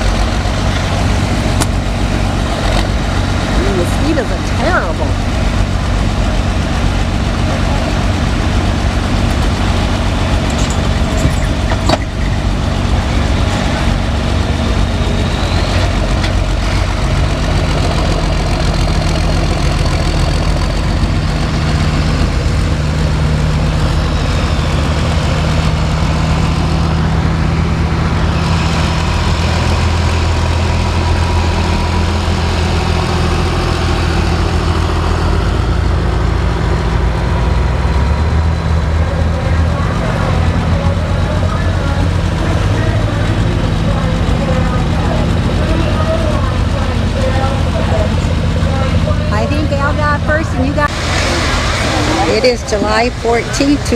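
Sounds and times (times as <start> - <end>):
tractor engine running loud: 0.0 - 53.9.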